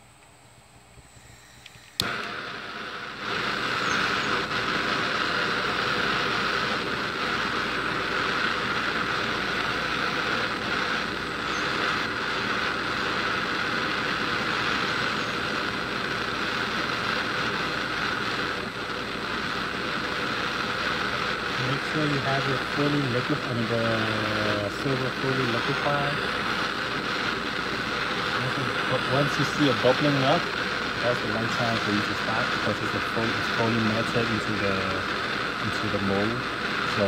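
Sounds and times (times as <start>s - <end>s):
gas torch hissing: 0.9s - 37.0s.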